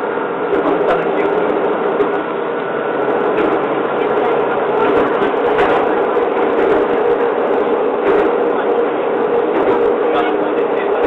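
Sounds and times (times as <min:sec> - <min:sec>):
train running drone: 0:00.0 - 0:11.0.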